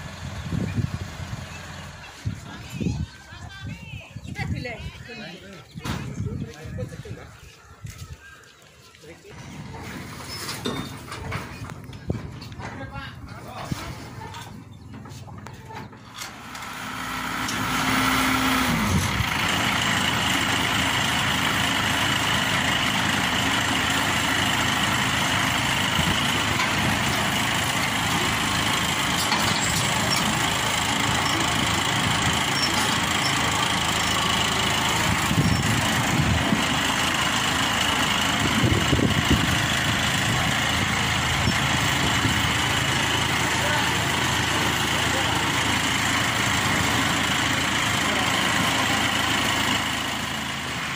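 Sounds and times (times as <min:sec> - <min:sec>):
combine harvester engine running: 0:00.0 - 0:07.0, 0:09.3 - 0:50.9
starter whine: 0:09.3 - 0:50.9.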